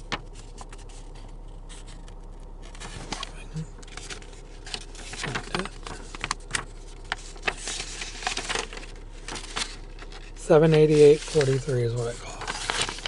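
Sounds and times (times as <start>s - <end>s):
clicks and rustles of handling: 0.0s - 13.0s.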